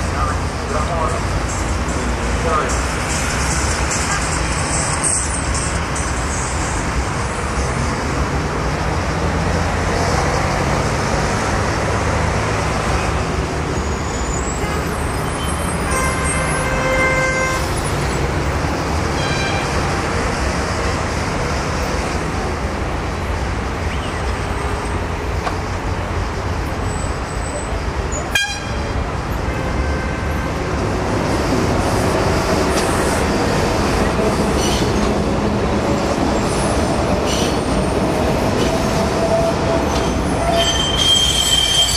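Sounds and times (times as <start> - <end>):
street traffic: 0.0 - 41.9
tram rumbling past: 0.0 - 41.9.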